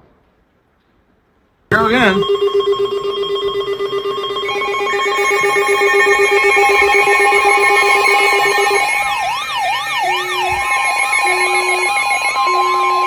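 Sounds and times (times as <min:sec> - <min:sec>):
fast-warbling ringing alert tone: 0:01.7 - 0:13.0
steady high alert tones: 0:01.7 - 0:13.0
rising and falling siren-like tone: 0:02.2 - 0:13.0.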